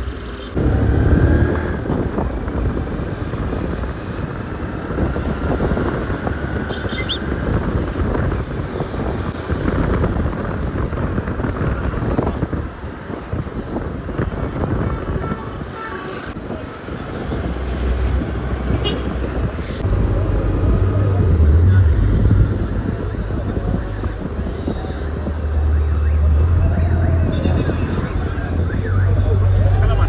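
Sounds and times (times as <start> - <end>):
motor vehicle low rumble: 0.0 - 15.4, 16.3 - 30.0.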